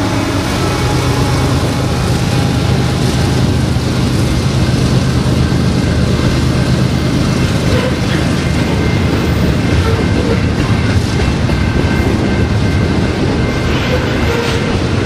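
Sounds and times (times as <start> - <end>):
diesel locomotive engines: 0.0 - 15.0
train wheels on rails: 0.0 - 15.0.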